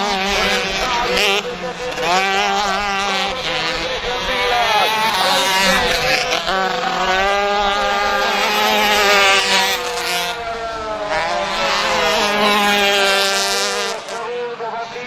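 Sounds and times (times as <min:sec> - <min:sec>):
kart engines at high revs: 0:00.0 - 0:15.0.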